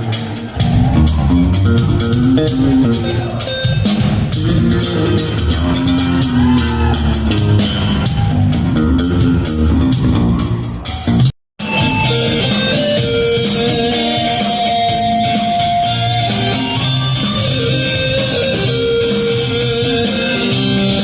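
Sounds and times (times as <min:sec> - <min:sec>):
rock band playing: 0:00.0 - 0:21.0
strummed guitar: 0:00.5 - 0:08.1, 0:11.6 - 0:21.0.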